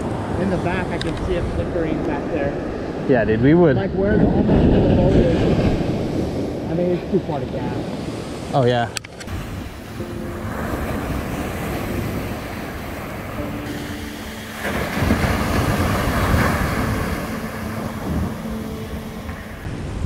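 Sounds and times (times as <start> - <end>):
ocean surf breaking on beach: 0.0 - 20.0.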